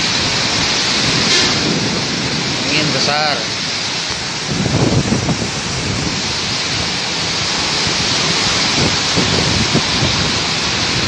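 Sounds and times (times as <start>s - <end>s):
heavy rain pouring: 0.0s - 11.0s
wind buffeting microphone: 0.0s - 11.0s.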